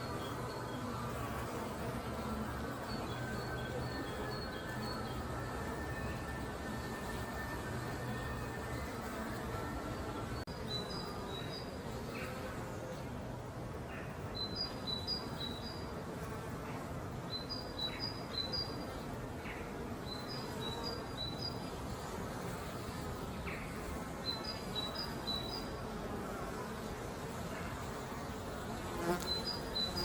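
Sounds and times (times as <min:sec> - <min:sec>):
honey bees buzzing: 0:00.0 - 0:13.0, 0:18.1 - 0:30.0.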